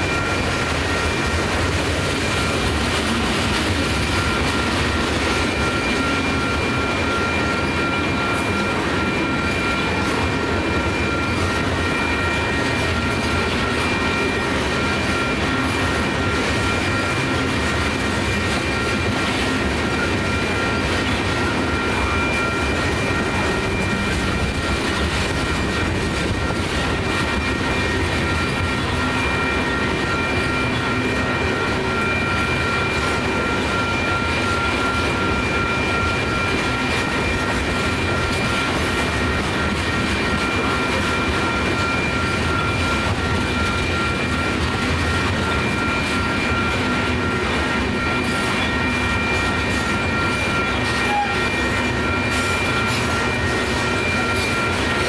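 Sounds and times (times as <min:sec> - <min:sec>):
steady high ringing tone: 0:00.0 - 0:55.0
train wheels rumbling on rail: 0:00.0 - 0:55.0.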